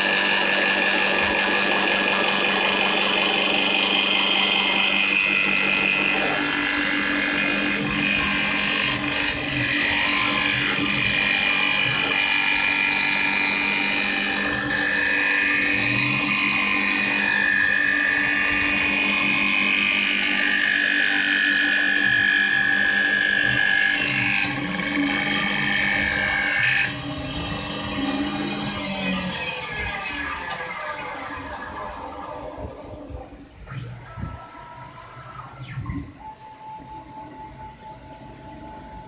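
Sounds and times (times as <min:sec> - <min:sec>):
lathe spindle whine: 0:00.0 - 0:39.0.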